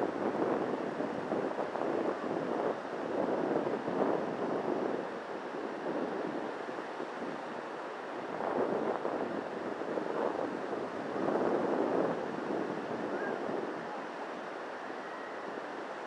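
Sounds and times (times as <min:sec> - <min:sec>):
surf breaking on a beach: 0:00.0 - 0:16.0.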